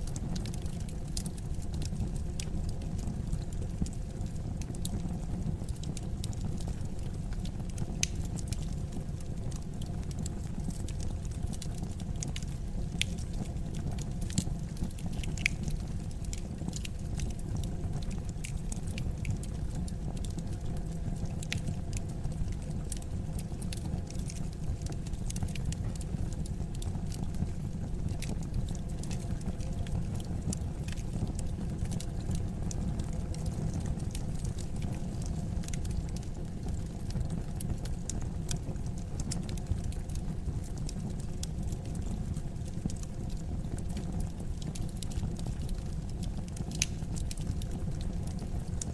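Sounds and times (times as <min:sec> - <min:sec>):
fire crackling and popping: 0:00.0 - 0:48.9
flames rumbling: 0:00.0 - 0:48.9.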